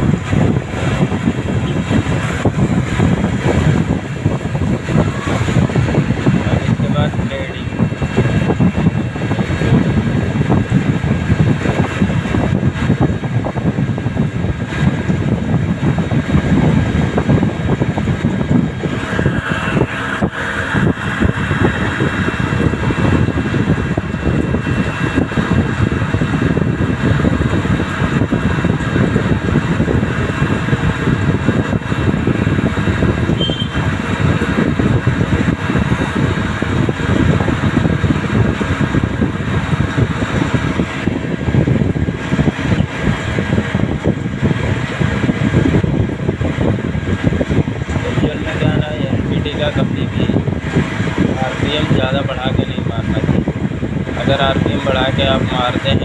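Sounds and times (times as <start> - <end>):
lathe running: 0.0 - 13.3, 13.9 - 56.0
coolant spray rushing: 0.0 - 56.0.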